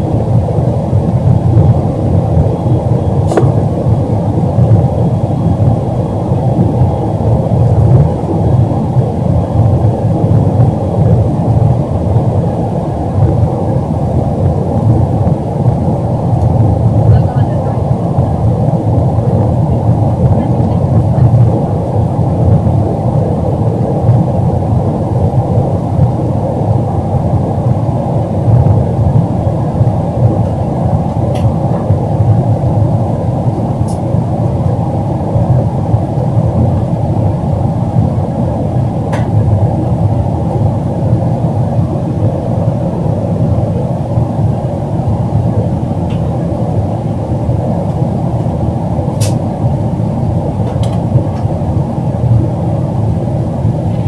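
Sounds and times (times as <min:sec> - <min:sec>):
jet cabin engine and air noise: 0:00.0 - 0:54.0.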